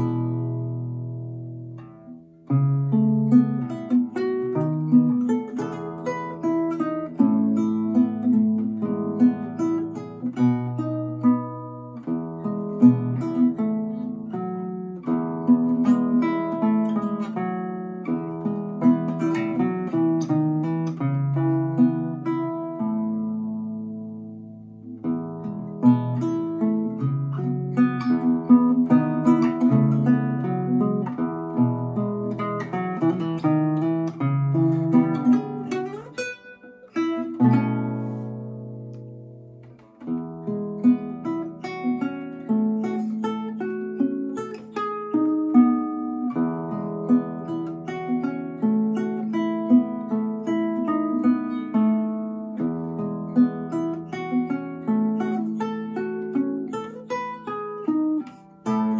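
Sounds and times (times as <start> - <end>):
fingerpicked classical guitar: 0.0 - 58.9.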